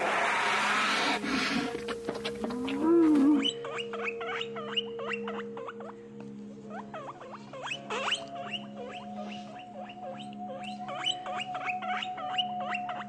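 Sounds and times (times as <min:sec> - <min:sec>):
guinea pigs squeaking: 0:00.0 - 0:06.0, 0:06.7 - 0:13.0
soft background music: 0:00.0 - 0:13.0.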